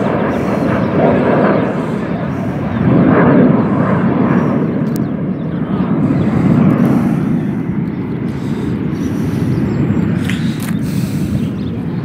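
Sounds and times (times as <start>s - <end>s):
jet engines rumbling past: 0.0s - 12.0s.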